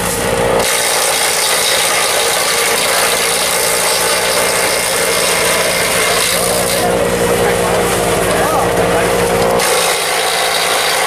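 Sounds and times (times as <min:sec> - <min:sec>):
chaff cutter running: 0:00.0 - 0:11.0.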